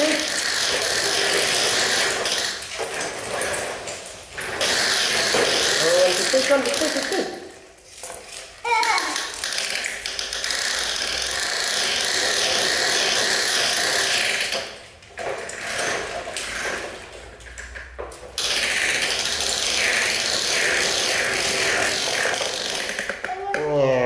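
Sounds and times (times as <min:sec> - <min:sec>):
toy truck wheels rattling on tiles: 0:00.0 - 0:23.5.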